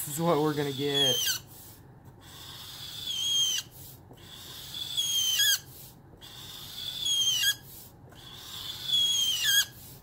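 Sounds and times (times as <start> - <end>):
marker squeaking on paper: 0.1 - 9.9.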